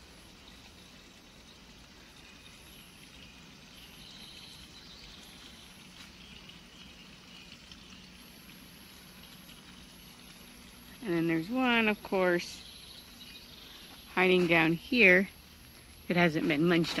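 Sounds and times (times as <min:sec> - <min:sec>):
high-pitched insect calls: 0:00.0 - 0:17.0
water running from a hose: 0:00.0 - 0:17.0.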